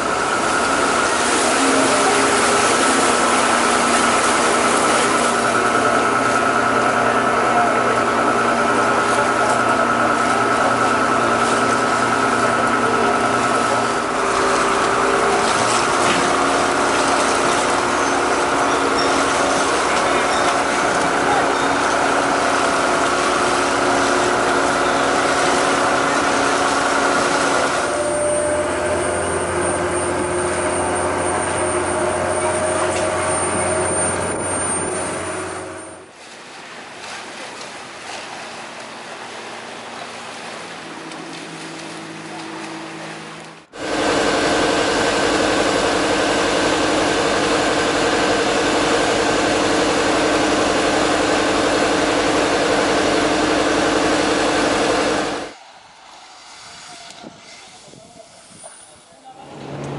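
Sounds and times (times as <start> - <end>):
boat engines droning: 0.0 - 59.9.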